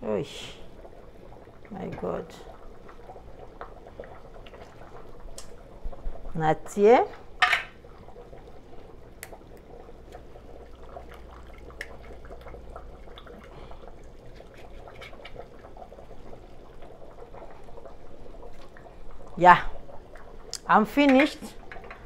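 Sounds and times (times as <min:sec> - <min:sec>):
pot bubbling on stove: 0:00.0 - 0:22.0.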